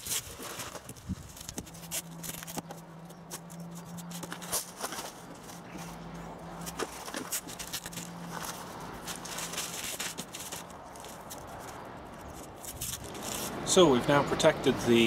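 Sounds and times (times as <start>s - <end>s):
paper and tape rustling and ripping: 0.0s - 6.0s, 6.6s - 13.5s.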